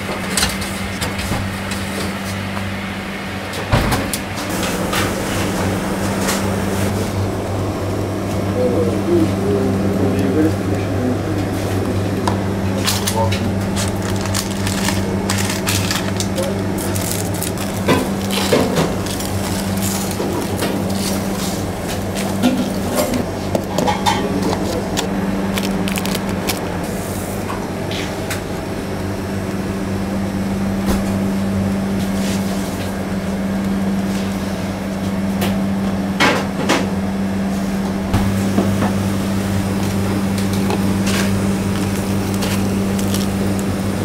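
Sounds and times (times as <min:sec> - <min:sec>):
equipment hum: 0:00.0 - 0:44.0.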